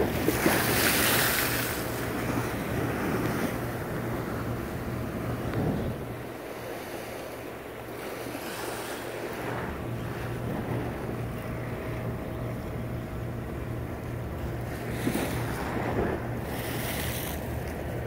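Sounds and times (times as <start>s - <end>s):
small waves against seawall: 0.0s - 18.0s
wind buffeting microphone: 0.0s - 18.0s.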